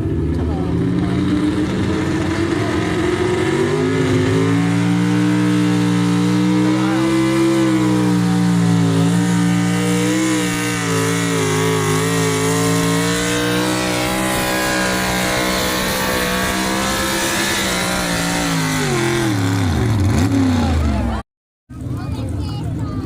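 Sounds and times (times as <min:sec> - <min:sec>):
engine at high revs: 0:00.0 - 0:21.2.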